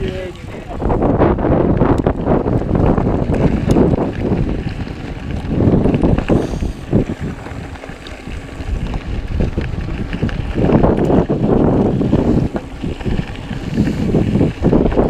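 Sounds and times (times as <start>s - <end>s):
bike knocks and rattles: 0.0s - 15.0s
wind rushing over microphone: 0.0s - 15.0s.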